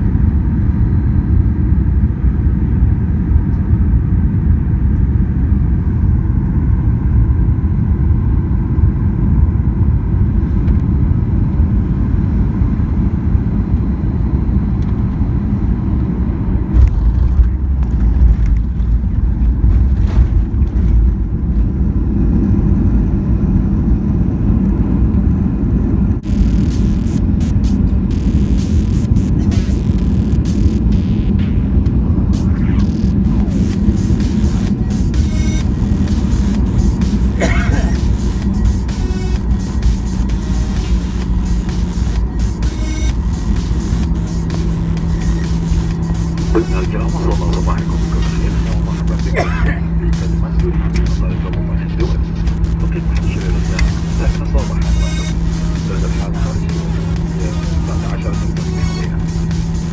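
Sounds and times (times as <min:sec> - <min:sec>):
airliner engines and airflow rumble: 0:00.0 - 0:59.9.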